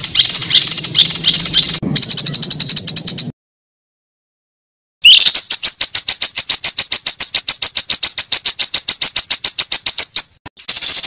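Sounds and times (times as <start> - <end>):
songbird rattling song: 0.0 - 3.3, 5.0 - 11.0.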